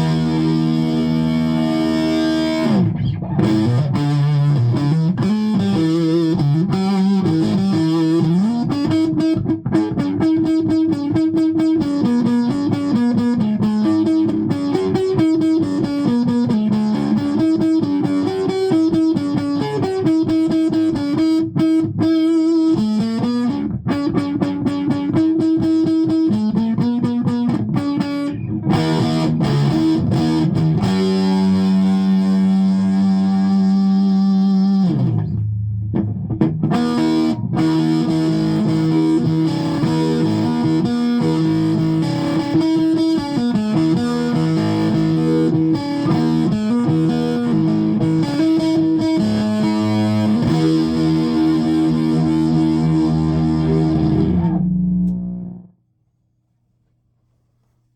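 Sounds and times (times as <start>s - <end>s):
driven electric guitar riff: 0.0s - 55.8s.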